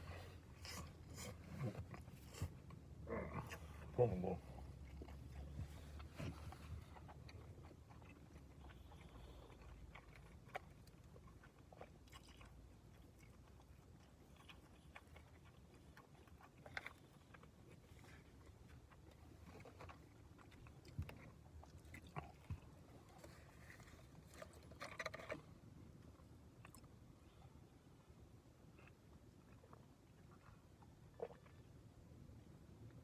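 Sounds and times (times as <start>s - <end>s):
low steady hum: 0.0s - 33.0s
man chewing food: 0.0s - 33.0s.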